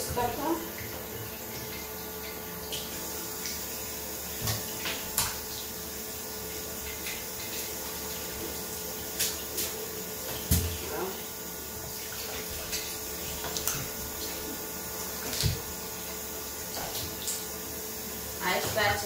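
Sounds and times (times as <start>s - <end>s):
tap water running into sink: 0.0s - 19.0s.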